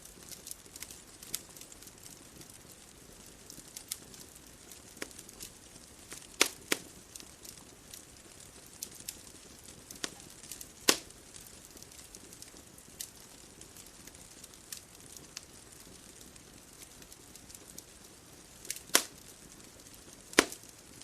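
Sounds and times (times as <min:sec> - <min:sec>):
bonfire crackling and popping: 0:00.0 - 0:21.0
fire hissing: 0:00.1 - 0:21.0.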